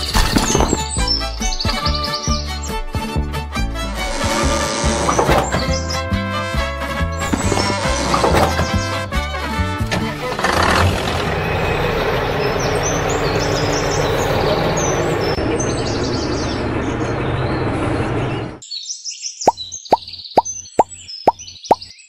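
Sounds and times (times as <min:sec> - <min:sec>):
birds chirping: 0:00.0 - 0:03.1, 0:04.8 - 0:09.1, 0:11.4 - 0:22.0.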